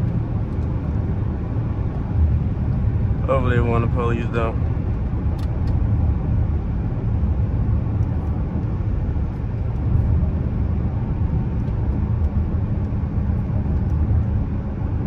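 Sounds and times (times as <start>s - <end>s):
low engine drone: 0.0s - 15.0s
tyre road noise: 0.0s - 15.0s.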